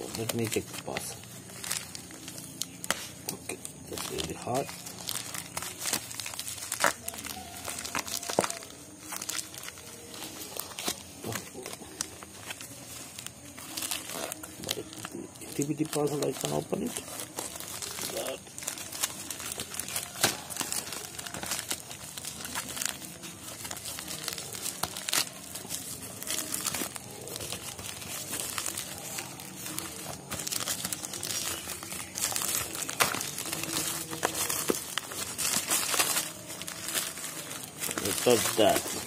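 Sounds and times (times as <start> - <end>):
plastic mailer crinkling: 0.0 - 39.0
plastic ripping: 0.0 - 39.0.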